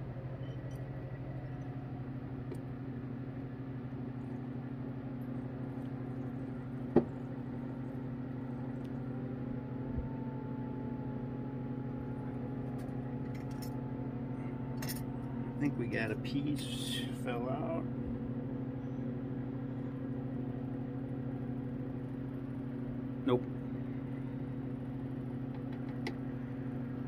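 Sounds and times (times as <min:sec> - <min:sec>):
vacuum pump humming: 0:00.0 - 0:27.0.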